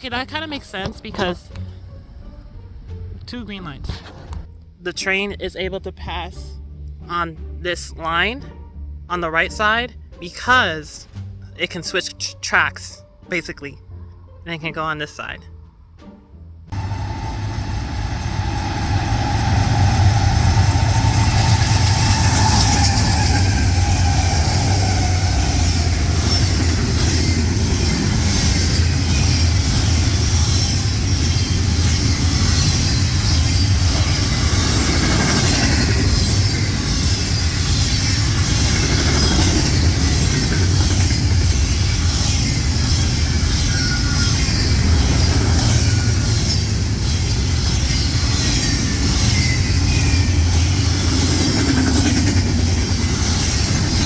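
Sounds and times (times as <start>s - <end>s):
freight train passing: 0.0s - 15.4s, 16.0s - 54.0s.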